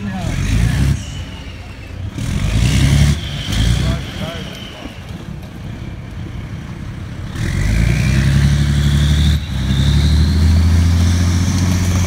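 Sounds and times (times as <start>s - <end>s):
tank engine revving: 0.0s - 12.0s.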